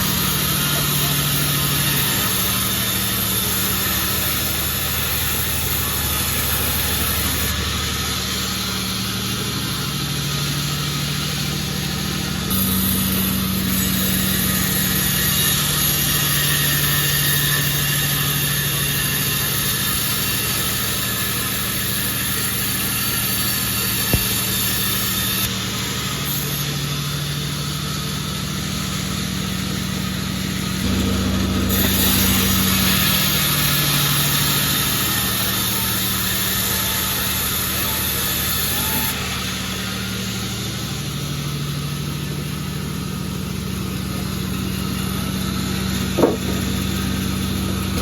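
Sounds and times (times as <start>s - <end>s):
sawmill machinery humming: 0.0s - 48.0s.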